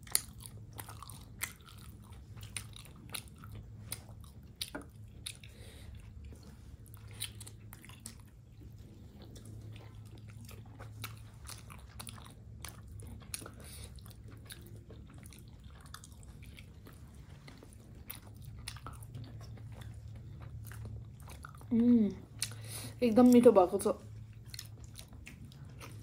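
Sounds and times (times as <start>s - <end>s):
person chewing with wet smacks: 0.0s - 26.0s
steady low hum: 0.0s - 26.0s.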